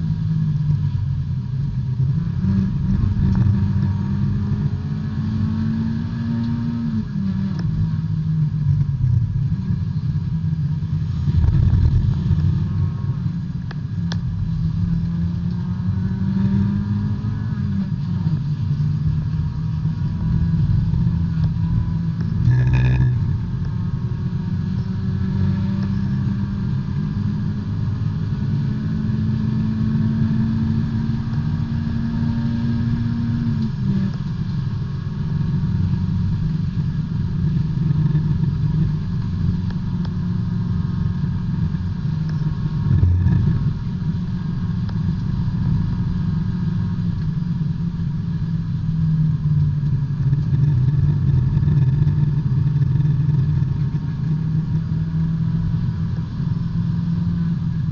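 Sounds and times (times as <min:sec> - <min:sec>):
race car engine running: 0:00.0 - 0:57.9.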